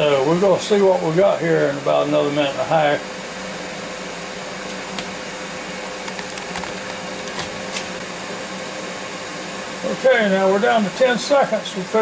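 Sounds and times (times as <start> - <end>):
convection fan humming: 0.0 - 12.0.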